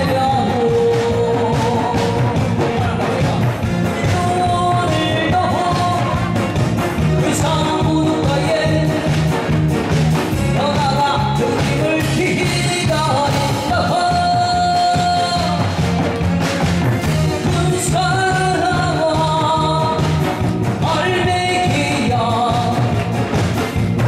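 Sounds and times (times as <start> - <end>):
person singing: 0.0 - 16.2, 17.0 - 24.0
upbeat backing track: 0.0 - 24.0.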